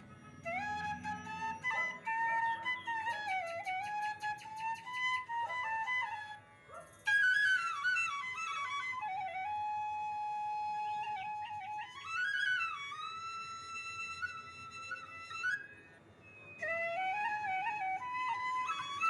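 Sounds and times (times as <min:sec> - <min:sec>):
solo flute melody: 0:00.0 - 0:19.0.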